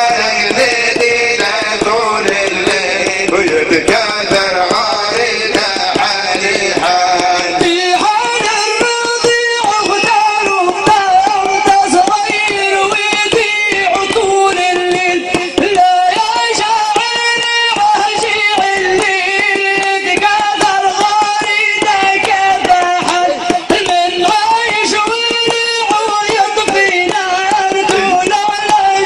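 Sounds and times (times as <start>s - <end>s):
quick hand-drum beats: 0.0s - 29.0s.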